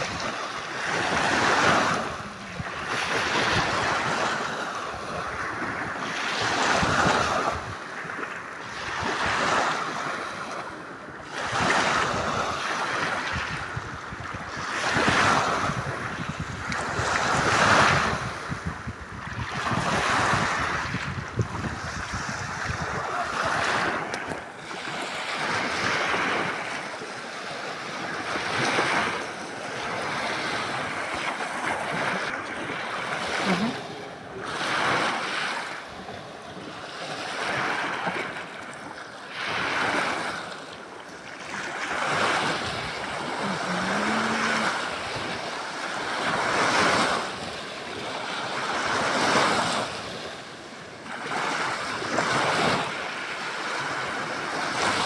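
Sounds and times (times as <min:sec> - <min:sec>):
waves breaking: 0:00.0 - 0:55.0.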